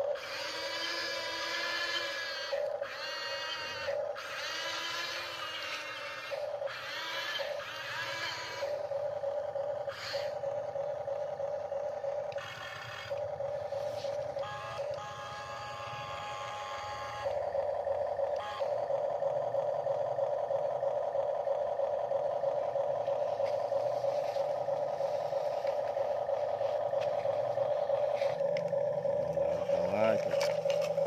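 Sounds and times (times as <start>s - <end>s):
higher motor whine: 0.0s - 31.0s
toy electric motors whining: 0.0s - 31.0s.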